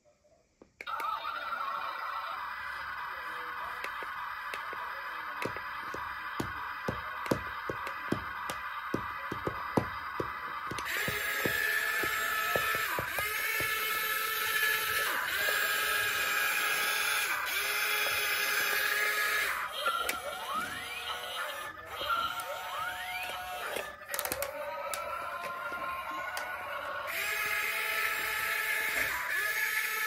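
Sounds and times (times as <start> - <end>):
toy gear motors whining: 0.7 - 30.0.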